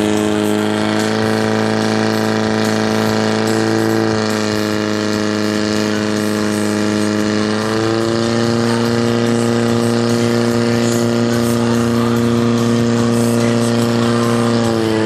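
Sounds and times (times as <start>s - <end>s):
fire pump engine running: 0.0s - 15.0s.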